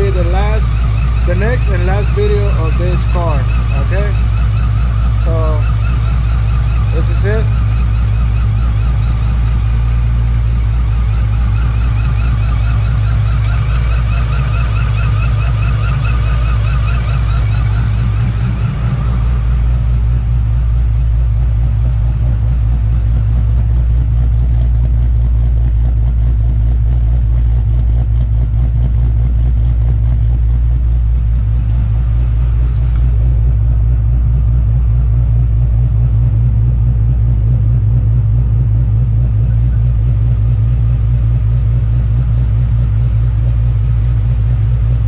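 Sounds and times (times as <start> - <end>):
car engine idling lumpy rumble: 0.0 - 45.0
wavering whine: 0.0 - 45.0.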